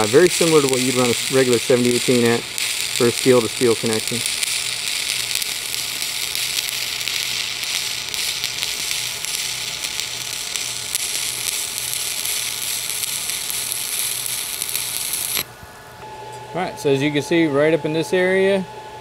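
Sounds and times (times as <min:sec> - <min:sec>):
welding arc crackling hiss: 0:00.0 - 0:15.5.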